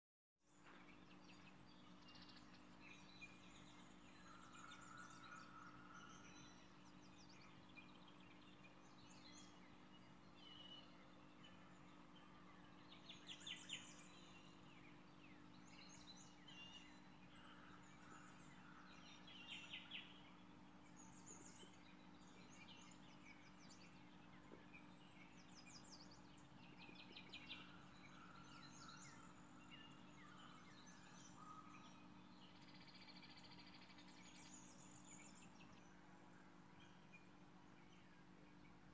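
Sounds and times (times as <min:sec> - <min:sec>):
faint steady hum: 0:00.5 - 0:38.9.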